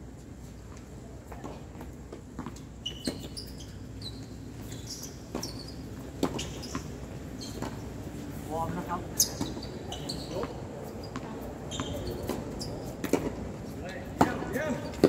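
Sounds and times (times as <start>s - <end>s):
tennis balls bouncing on court: 1.3s - 8.0s, 8.7s - 15.0s.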